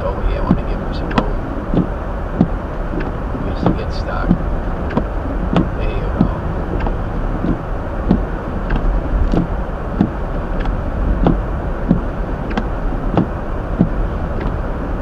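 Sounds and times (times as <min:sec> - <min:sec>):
car engine and tyres rumble: 0:00.0 - 0:15.0
windshield wipers thumping: 0:00.0 - 0:15.0.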